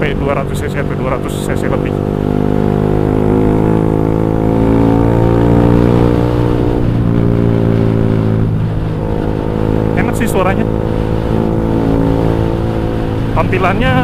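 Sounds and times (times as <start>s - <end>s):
motorcycle engine deep exhaust note: 0.0s - 14.0s.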